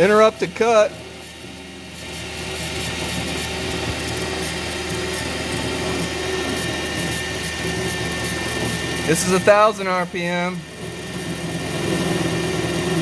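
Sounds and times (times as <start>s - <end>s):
metal lathe running with whine: 0.0s - 13.0s.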